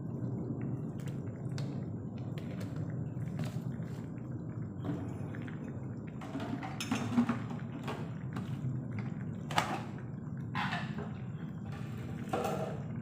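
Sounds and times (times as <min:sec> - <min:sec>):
low rumble of cooking: 0:00.0 - 0:13.0
wet liquid sounds in pan: 0:00.0 - 0:13.0.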